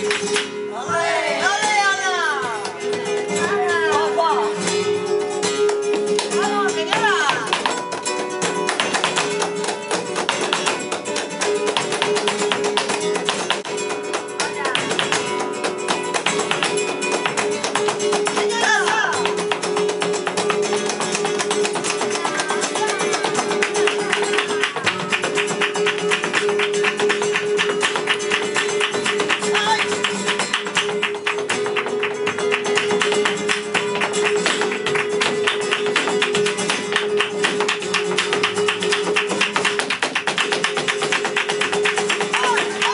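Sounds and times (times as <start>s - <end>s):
flamenco guitar: 0.0s - 42.9s.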